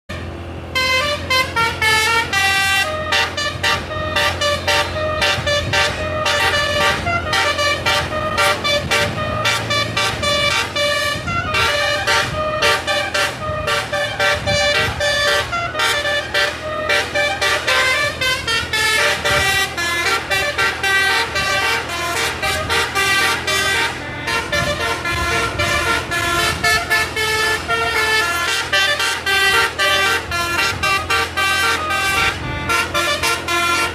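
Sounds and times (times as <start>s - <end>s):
multi-tone musical horn tune: 0.1s - 33.9s
vehicle engine running: 0.1s - 33.9s.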